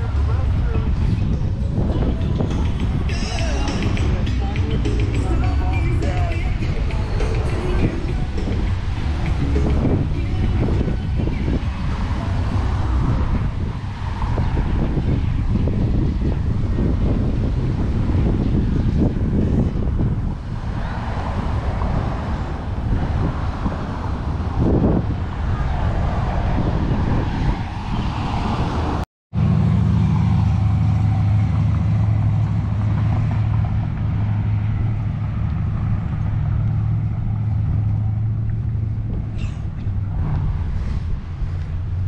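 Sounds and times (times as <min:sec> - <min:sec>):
street traffic: 0:00.0 - 0:42.0
vehicle engine humming: 0:00.0 - 0:42.0
wind on microphone: 0:00.0 - 0:42.0.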